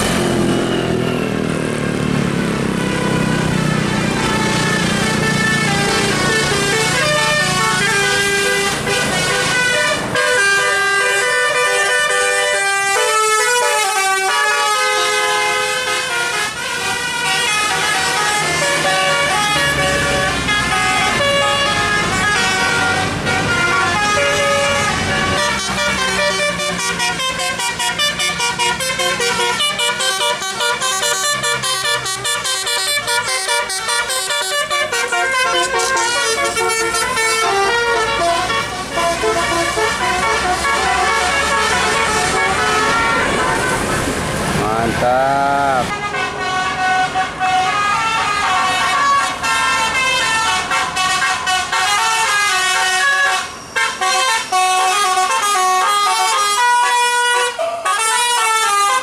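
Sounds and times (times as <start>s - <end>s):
bus engines running: 0.0s - 59.0s
musical bus air horns: 2.7s - 59.0s.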